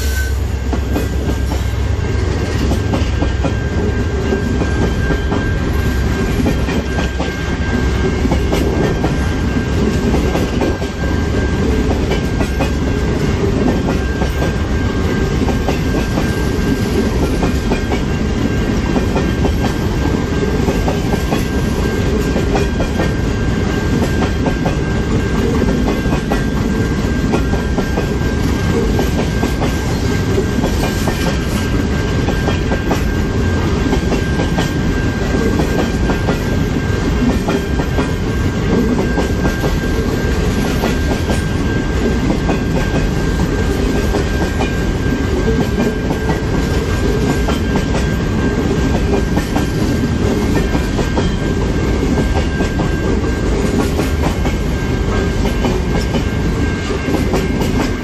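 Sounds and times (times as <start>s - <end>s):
low train rumble: 0.0s - 58.0s
train wheels clicking over joints: 0.6s - 58.0s.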